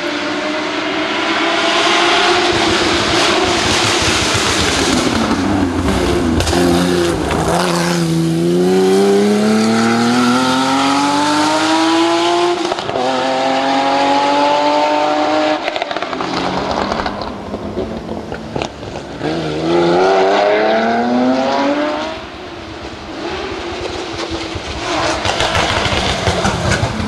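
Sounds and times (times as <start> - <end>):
rally car engine accelerating: 0.0 - 22.2.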